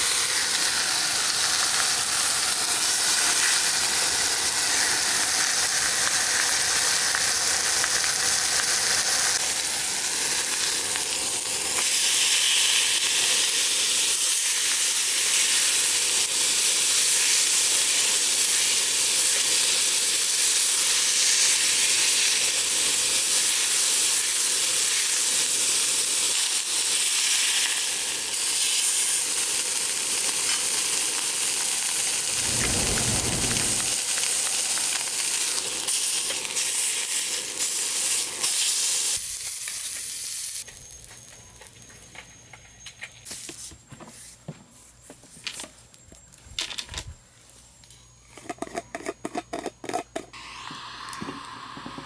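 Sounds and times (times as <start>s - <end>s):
food sizzling in a pan: 0.0s - 42.0s, 50.4s - 52.0s.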